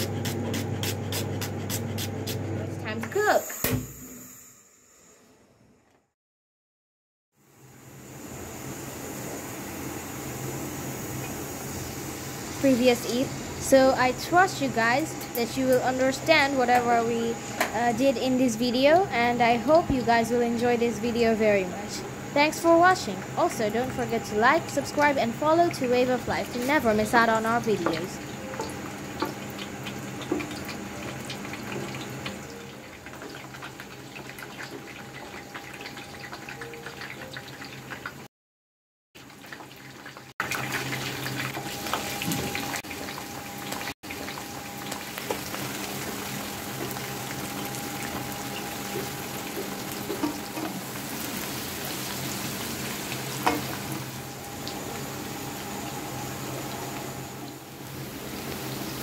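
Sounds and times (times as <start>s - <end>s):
onions frying in oil: 7.4s - 38.3s, 39.2s - 59.0s
spices sizzling in hot oil: 7.4s - 38.3s, 39.2s - 59.0s.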